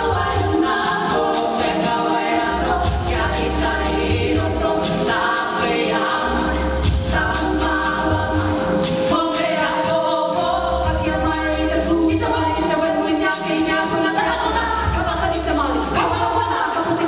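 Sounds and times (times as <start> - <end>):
drums: 0.0 - 17.0
group of voices singing: 0.0 - 17.0.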